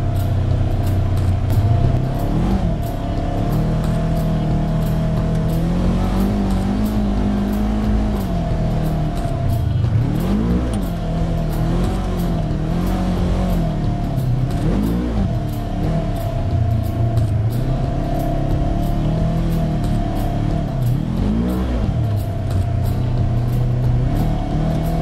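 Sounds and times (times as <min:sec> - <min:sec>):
utility vehicle engine running: 0:00.0 - 0:25.0.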